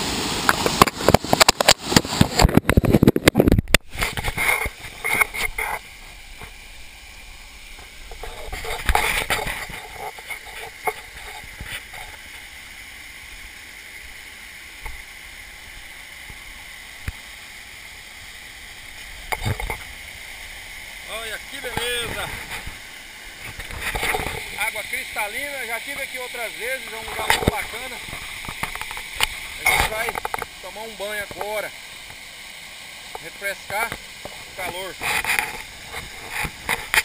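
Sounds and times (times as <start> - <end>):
muffled waterfall rushing: 0.0 - 37.0.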